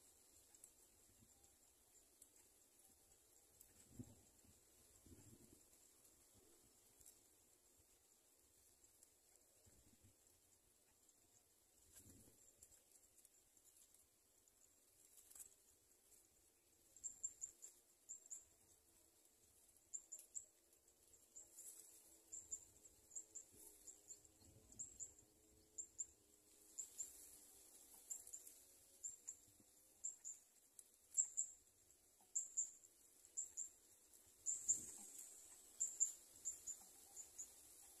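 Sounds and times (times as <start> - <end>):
faint high-pitched chirps: 0.0 - 38.0.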